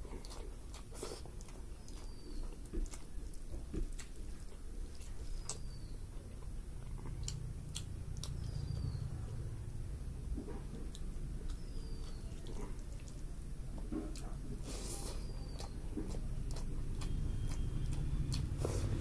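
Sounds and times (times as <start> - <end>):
chewing: 0.0 - 9.5, 10.3 - 19.0.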